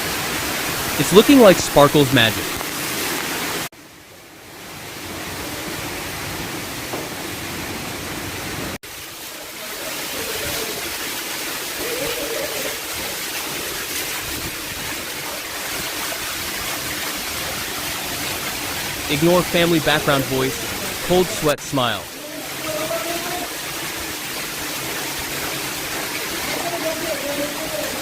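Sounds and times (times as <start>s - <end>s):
water rushing down stairs: 4.9s - 28.0s.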